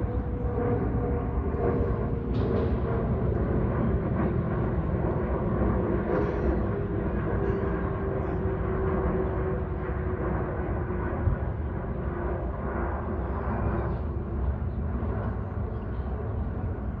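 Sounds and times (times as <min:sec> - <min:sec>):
aircraft engines droning overhead: 0:00.0 - 0:17.0.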